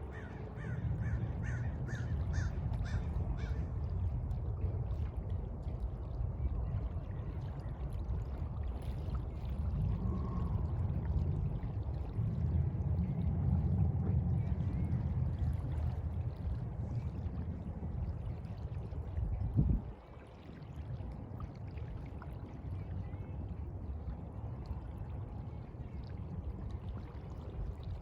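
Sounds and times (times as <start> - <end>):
sea water sloshing: 0.0 - 28.0.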